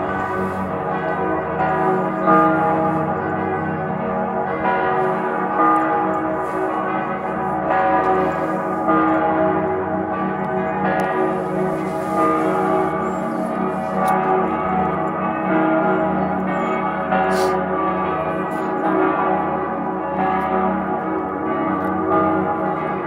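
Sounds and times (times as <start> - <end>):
church bells ringing: 0.0 - 23.0.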